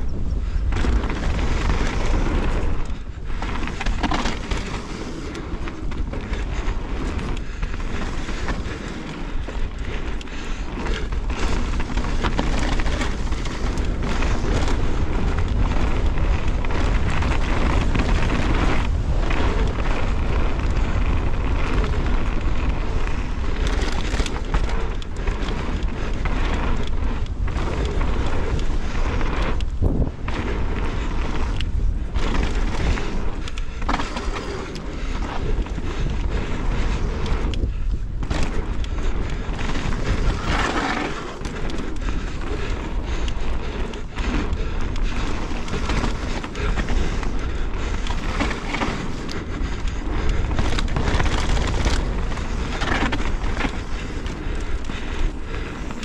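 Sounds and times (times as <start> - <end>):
bike rattling: 0.0 - 56.0
bike tyres rolling on gravel: 0.0 - 56.0
wind on microphone: 0.0 - 56.0.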